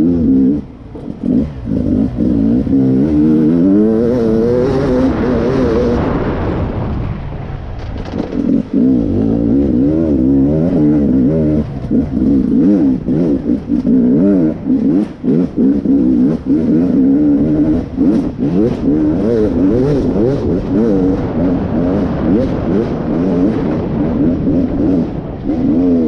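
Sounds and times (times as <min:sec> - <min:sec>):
motorcycle engine revving hard: 0:00.0 - 0:26.0.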